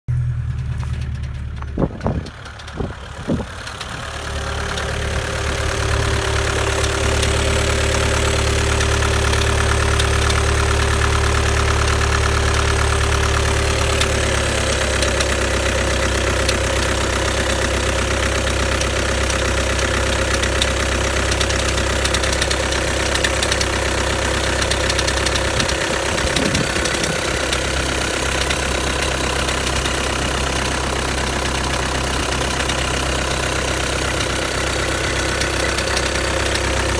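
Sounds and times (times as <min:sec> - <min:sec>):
diesel engine idling: 0:00.1 - 0:36.9
engine knocking: 0:00.1 - 0:36.9.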